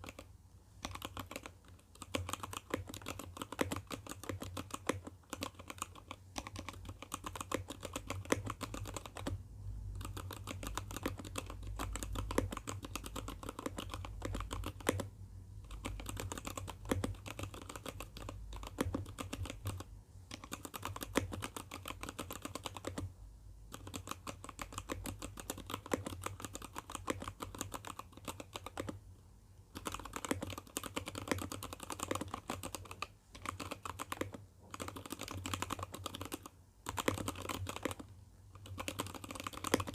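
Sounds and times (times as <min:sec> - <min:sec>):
mechanical keyboard typing: 0:00.0 - 0:23.1, 0:23.7 - 0:29.0, 0:29.7 - 0:39.9.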